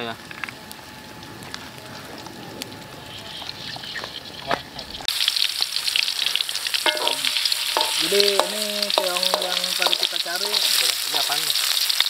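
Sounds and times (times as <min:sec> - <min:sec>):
hot oil hissing and popping: 0:00.0 - 0:12.0
food sizzling in hot oil: 0:02.1 - 0:12.0.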